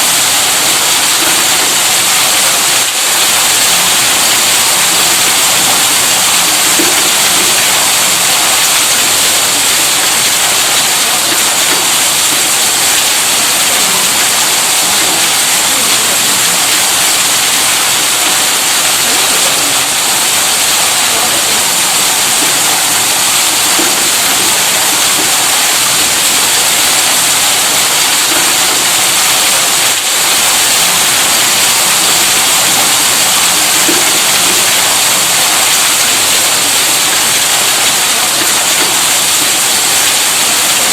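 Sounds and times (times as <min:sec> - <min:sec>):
water rushing from a pump: 0:00.0 - 0:40.9.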